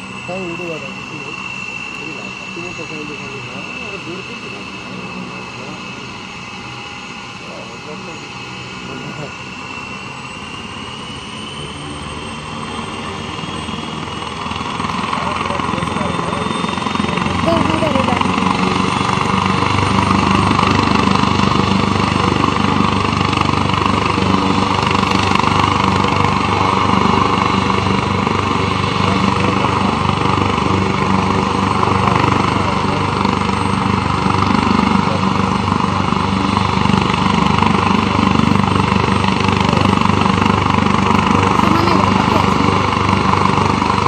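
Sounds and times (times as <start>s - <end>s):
helicopter engines and rotors: 0.0s - 44.0s.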